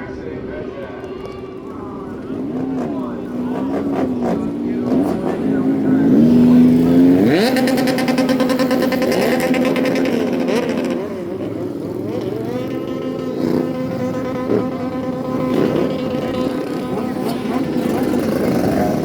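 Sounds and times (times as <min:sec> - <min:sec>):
engine revving: 0:01.0 - 0:19.0
second engine revs rising and falling: 0:01.3 - 0:19.0.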